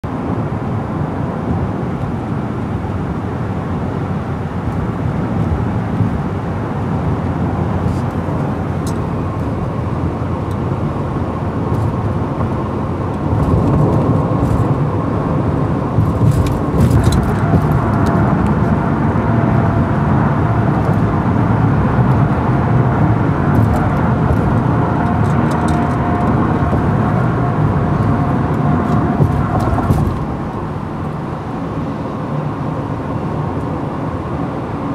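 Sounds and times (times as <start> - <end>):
car cabin road rumble: 0.1 - 34.9.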